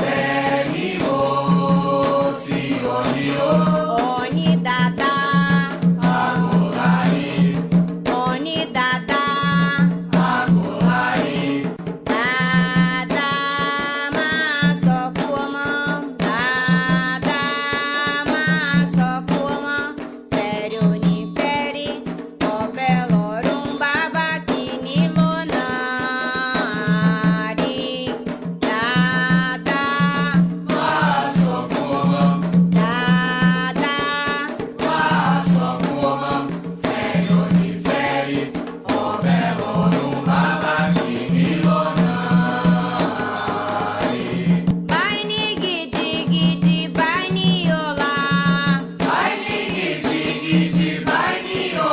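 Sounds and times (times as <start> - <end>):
ritual chant singing: 0.0 - 19.7, 28.6 - 51.9
drums beating steady rhythm: 0.0 - 51.9.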